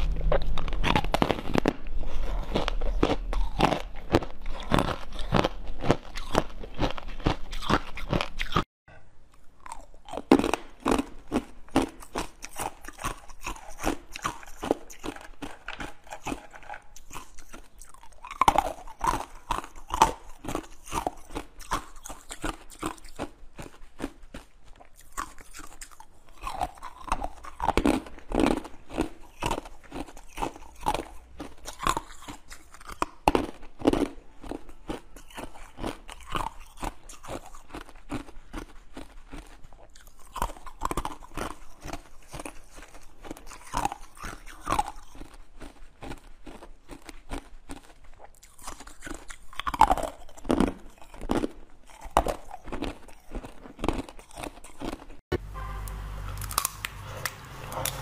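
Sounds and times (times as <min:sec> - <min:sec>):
crunching frozen pieces: 0:00.6 - 0:08.6, 0:09.6 - 0:55.2.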